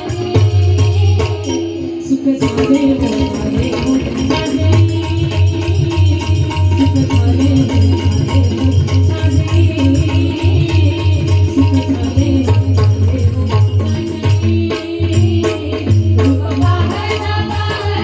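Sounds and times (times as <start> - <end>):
pakhavaj drumming: 0.0 - 18.0.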